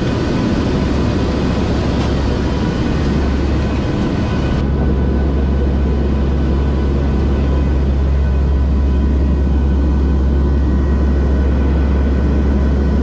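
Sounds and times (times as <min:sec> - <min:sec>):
aircraft engines droning: 0:00.0 - 0:13.0
thin steady whines: 0:00.0 - 0:13.0.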